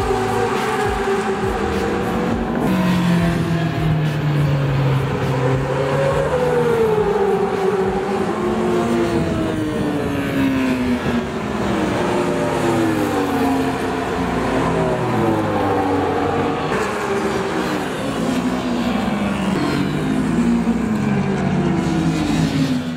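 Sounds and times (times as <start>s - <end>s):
racing motorcycle engines: 0.0s - 22.9s.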